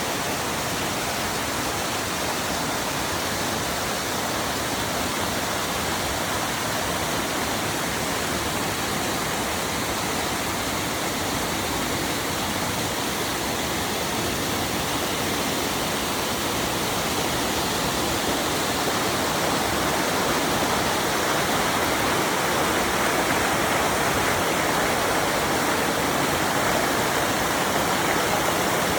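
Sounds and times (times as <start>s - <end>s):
waterfall splashing: 0.0s - 28.9s.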